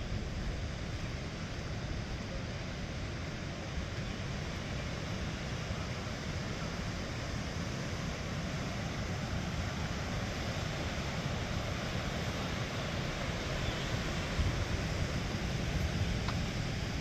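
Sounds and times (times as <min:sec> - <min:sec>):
river rushing over rapids: 0:00.0 - 0:17.0.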